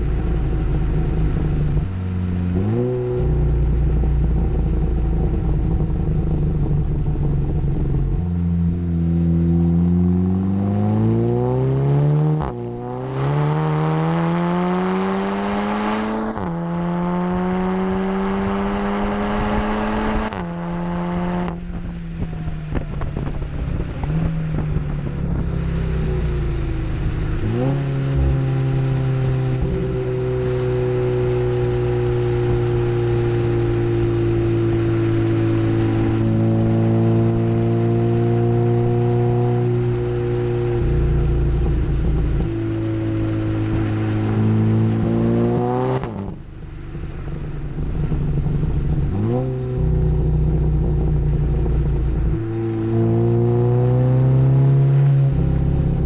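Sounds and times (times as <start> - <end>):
car engine accelerating hard: 0.0 - 56.0
quick gear upshifts: 0.0 - 56.0.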